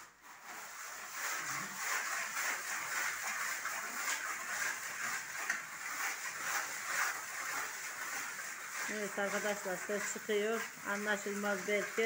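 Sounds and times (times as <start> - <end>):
plaster wall being rubbed down: 0.0 - 12.0.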